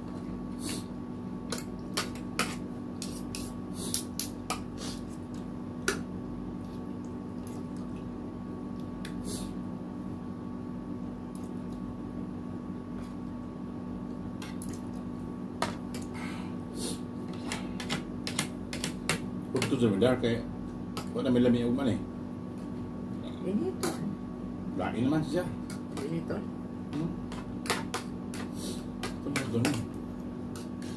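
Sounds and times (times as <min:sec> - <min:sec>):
steady room hum: 0:00.0 - 0:30.9.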